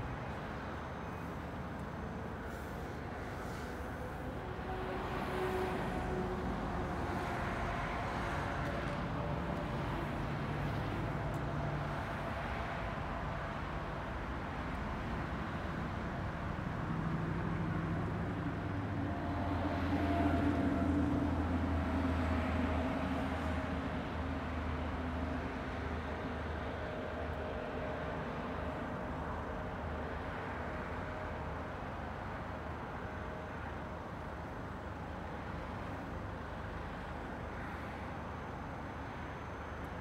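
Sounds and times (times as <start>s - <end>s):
street traffic: 0.0s - 40.0s.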